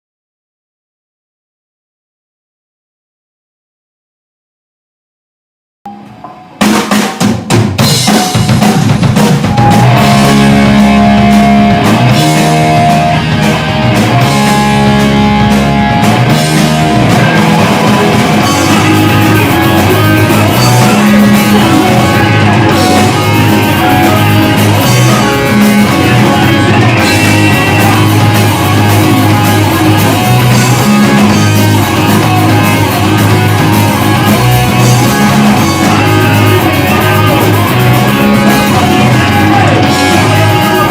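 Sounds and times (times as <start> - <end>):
hardcore band playing: 5.9 - 40.9.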